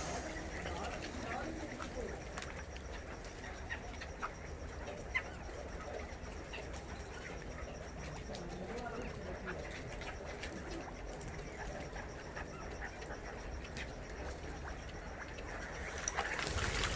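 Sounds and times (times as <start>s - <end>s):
partridges chirping and clucking: 0.0s - 16.9s.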